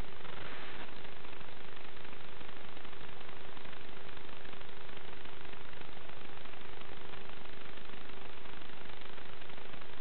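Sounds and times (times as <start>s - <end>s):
constant low hum tone: 0.0s - 10.0s
static hiss: 0.0s - 10.0s.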